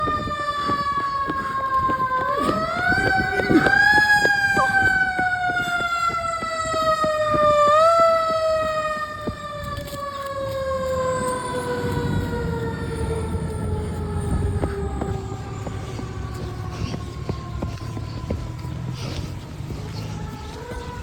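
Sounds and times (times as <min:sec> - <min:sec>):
engine and traffic rumble: 0:00.0 - 0:21.0
fire truck siren wailing: 0:00.0 - 0:21.0.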